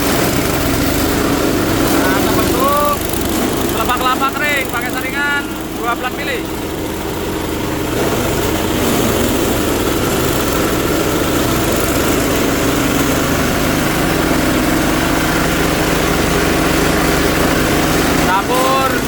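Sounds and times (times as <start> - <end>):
engine drone: 0.0 - 19.0
rough grinding noise: 0.0 - 19.0.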